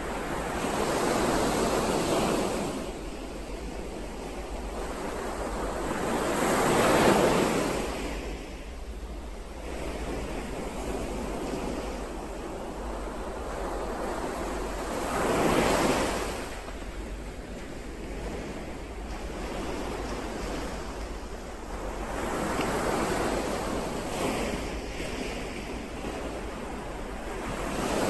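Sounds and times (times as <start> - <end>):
ocean waves surf: 0.0 - 28.0.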